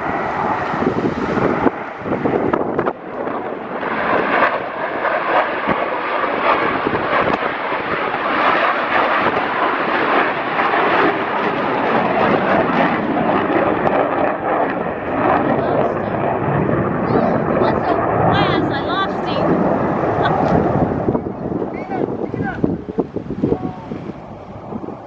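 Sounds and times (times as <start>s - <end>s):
fighter jets roaring in flight: 0.0s - 25.0s.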